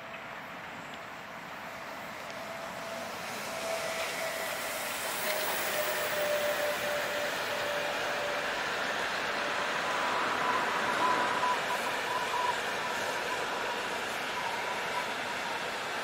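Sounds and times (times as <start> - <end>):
electric train rolling: 0.0 - 16.0
thin train whine: 0.0 - 16.0.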